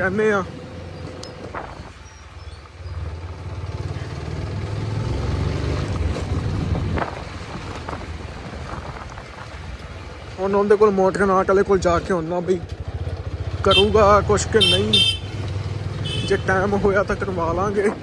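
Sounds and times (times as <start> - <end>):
motorcycle engine accelerating: 0.2 - 10.2, 11.3 - 18.0.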